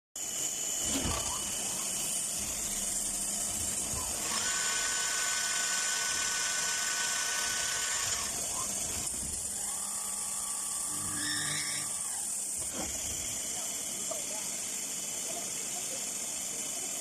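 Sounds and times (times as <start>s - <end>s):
lathe high whine: 0.2s - 17.0s
machine high hiss: 0.2s - 17.0s.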